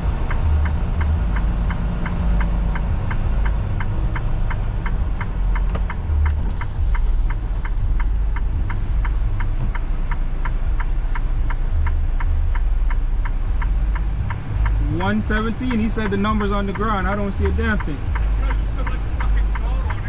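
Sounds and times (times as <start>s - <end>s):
diesel engine rumble: 0.0s - 20.0s
turn signal clicking: 0.0s - 20.0s.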